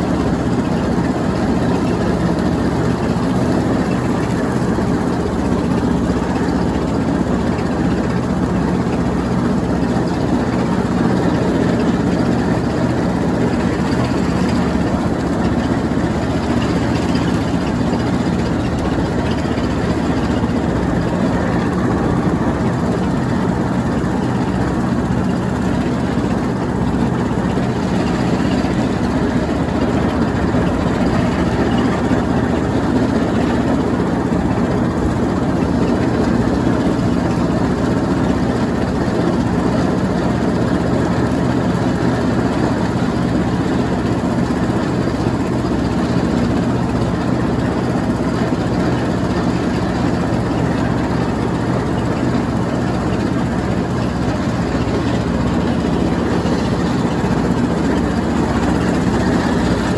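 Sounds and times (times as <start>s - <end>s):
riding lawnmower running: 0.0s - 59.9s.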